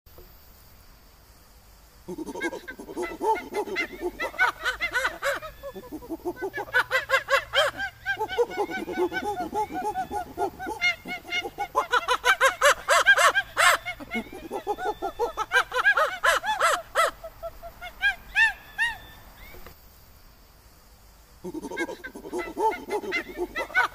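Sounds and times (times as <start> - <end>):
imitated chimpanzee hooting calls: 2.1 - 19.6, 21.4 - 23.9.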